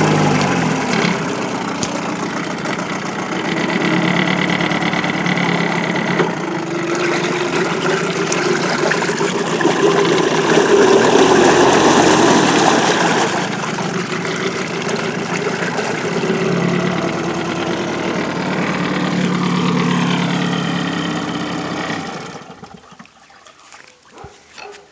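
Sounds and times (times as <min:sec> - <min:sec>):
outboard motor running: 0:00.0 - 0:24.9.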